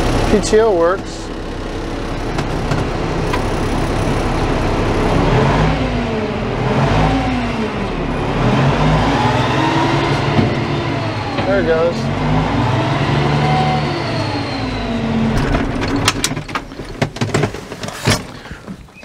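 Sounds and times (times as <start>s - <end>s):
diesel engine revving: 0.0s - 18.5s.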